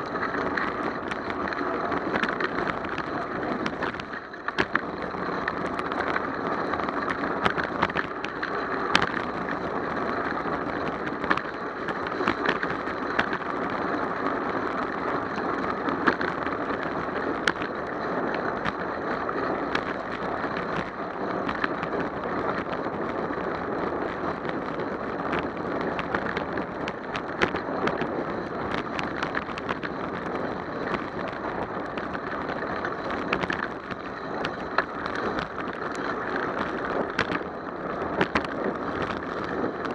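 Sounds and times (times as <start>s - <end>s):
bicycle tyres on wet pavement: 0.0s - 39.9s
sharp clicks and knocks: 0.0s - 39.9s.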